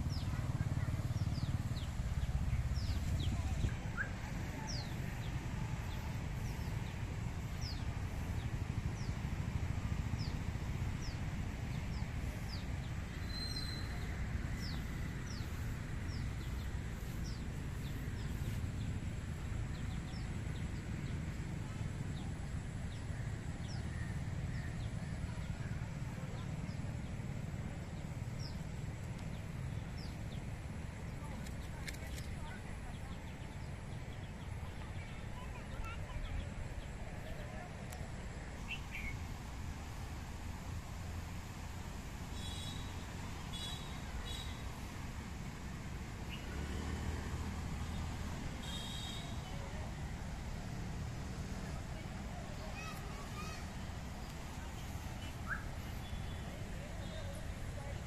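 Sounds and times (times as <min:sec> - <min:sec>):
steady low rumble: 0:00.0 - 0:46.3, 0:49.8 - 0:58.0.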